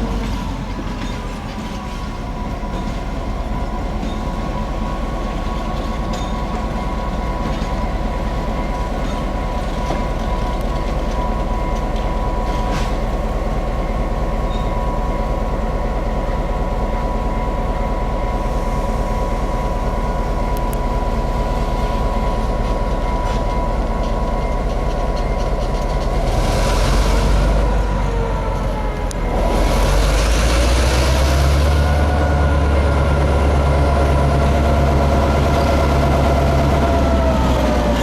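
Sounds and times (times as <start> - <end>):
locomotive diesel engine rumbling: 0.0 - 38.0.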